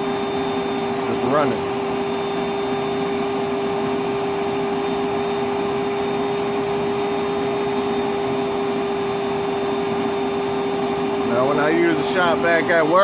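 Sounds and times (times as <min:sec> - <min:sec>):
vacuum motor whine: 0:00.0 - 0:13.0.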